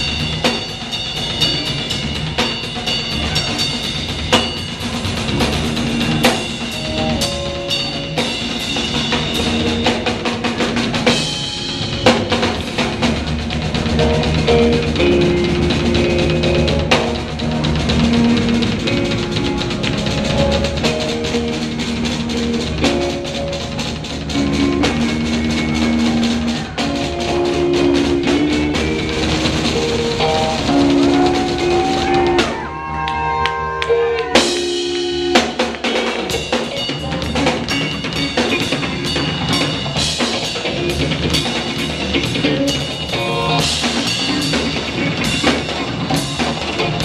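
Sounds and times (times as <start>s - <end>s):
drum solo: 0.0s - 47.0s
electric bass notes: 0.0s - 47.0s
electric guitar notes: 4.3s - 47.0s.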